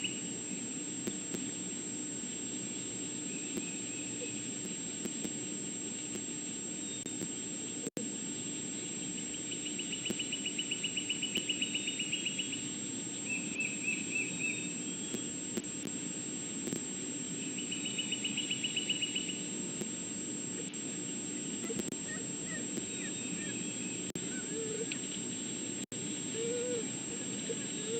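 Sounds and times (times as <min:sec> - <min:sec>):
steady hum: 0:00.0 - 0:27.9.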